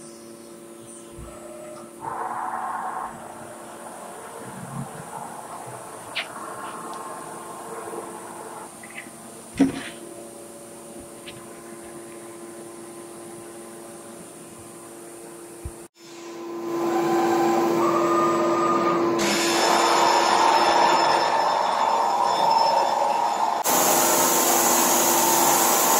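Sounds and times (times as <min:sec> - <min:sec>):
machine whine: 0:00.0 - 0:25.9
cnc router humming: 0:00.9 - 0:25.9.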